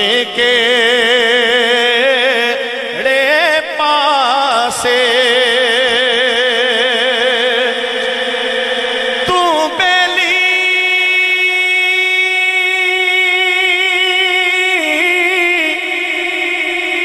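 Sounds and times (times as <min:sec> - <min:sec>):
man singing melisma: 0:00.0 - 0:17.0.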